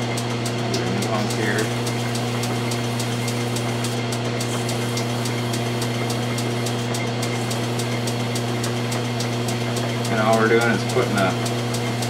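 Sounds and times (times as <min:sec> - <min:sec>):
metal lathe humming: 0:00.0 - 0:12.0
light regular ticking: 0:00.1 - 0:12.0.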